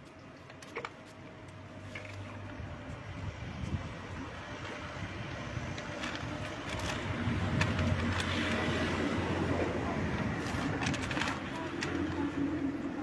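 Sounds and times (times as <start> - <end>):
car passing: 1.6 - 13.0.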